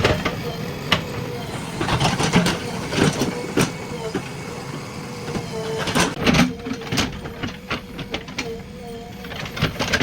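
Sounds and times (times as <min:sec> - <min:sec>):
diesel engine humming: 0:00.0 - 0:08.1.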